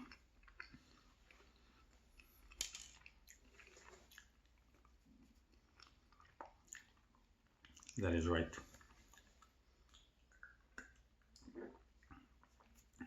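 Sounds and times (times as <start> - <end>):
faint chewing with mouth clicks: 0.0 - 13.0.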